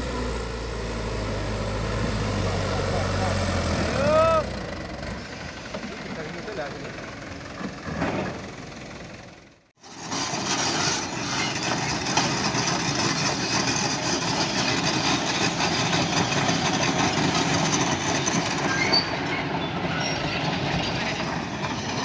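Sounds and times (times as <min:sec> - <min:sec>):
diesel construction machinery running: 0:00.0 - 0:22.0.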